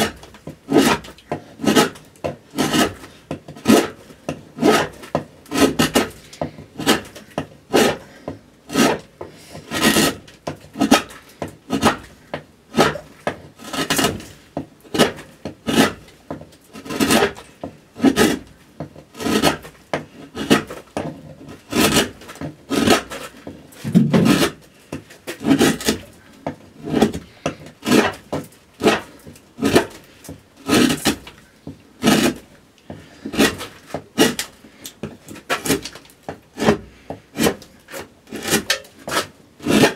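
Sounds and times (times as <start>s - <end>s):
gouge scraping wood: 0.0s - 39.9s.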